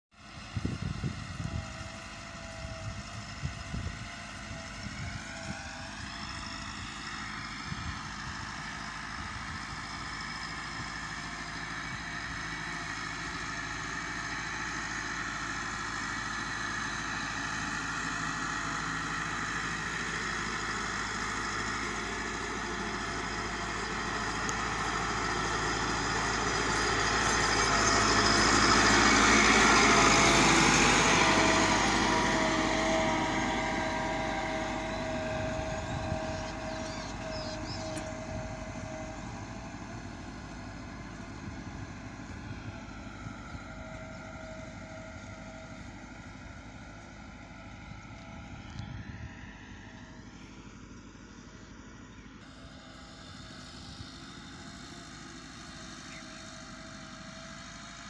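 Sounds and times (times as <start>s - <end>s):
tractor diesel engine running: 0.1s - 58.0s.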